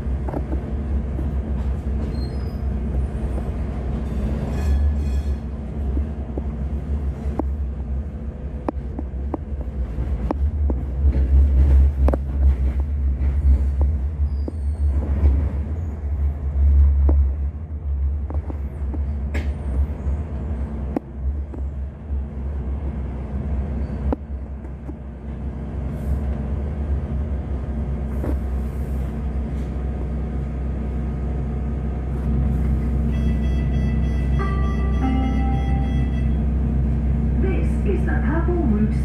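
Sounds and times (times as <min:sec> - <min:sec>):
tram running gear rumble: 0:00.0 - 0:39.0.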